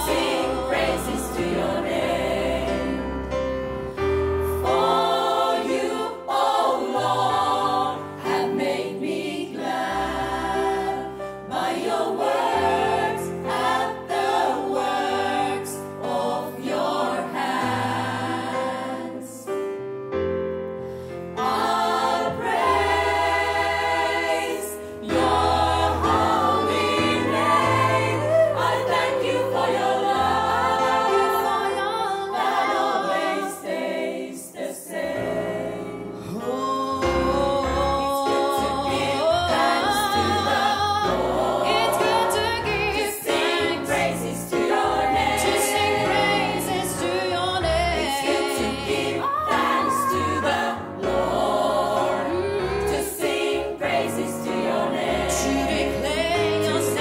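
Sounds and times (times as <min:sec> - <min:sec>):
female gospel choir singing: 0:00.0 - 0:19.6, 0:21.2 - 0:57.0
stage piano: 0:00.0 - 0:57.0.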